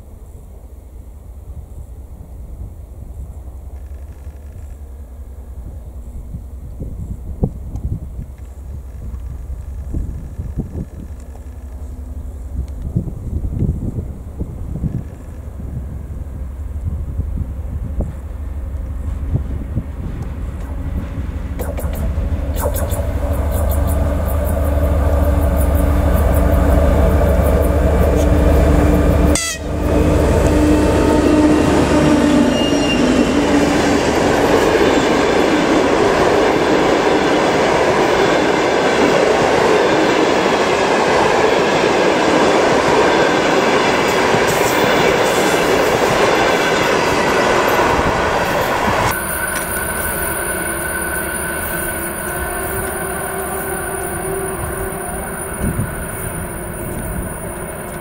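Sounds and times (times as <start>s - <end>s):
locomotive engine drone: 0.0s - 58.0s
train wheels rumbling on rails: 0.0s - 58.0s.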